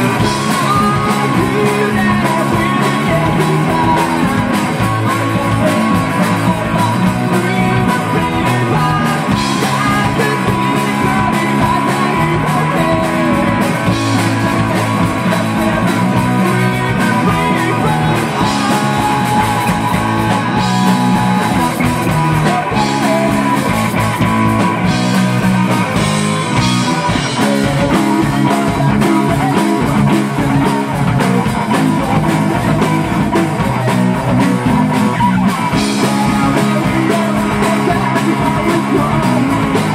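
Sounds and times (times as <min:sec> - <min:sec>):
bass guitar: 0:00.0 - 0:39.9
drum kit beat: 0:00.0 - 0:39.9
electric guitar: 0:00.0 - 0:39.9
man singing: 0:00.0 - 0:39.9.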